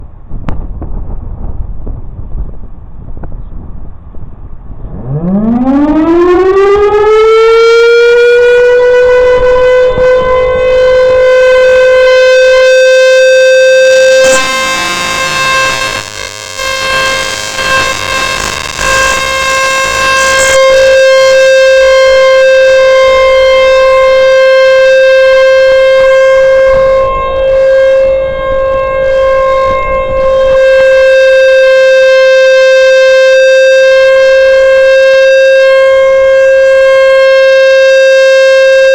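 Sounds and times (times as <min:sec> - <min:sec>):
warning siren wailing: 0:04.8 - 0:38.9.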